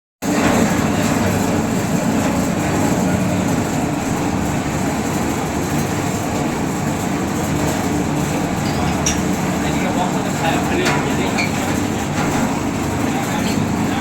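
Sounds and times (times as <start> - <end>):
bottle washing machine running: 0.2 - 14.0.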